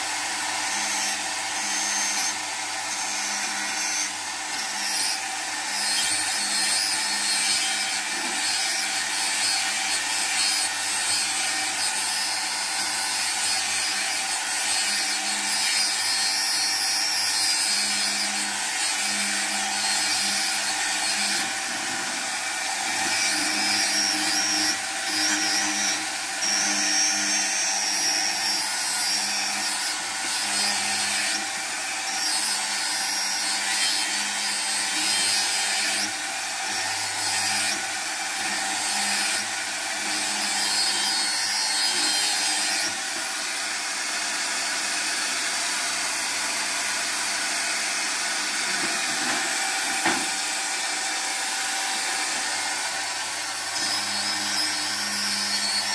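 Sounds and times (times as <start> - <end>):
angle grinder cutting tile: 0.0 - 55.9.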